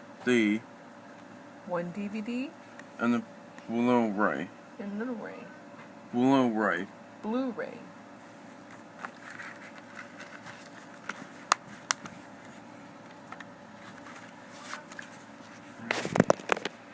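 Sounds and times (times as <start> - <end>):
faint room hum: 0.0 - 16.9.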